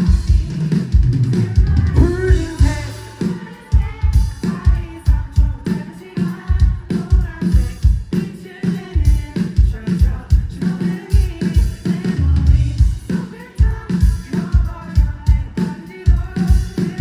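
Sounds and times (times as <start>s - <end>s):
crowd singing along: 0.0s - 17.0s
live band playing pop-rock: 0.0s - 17.0s.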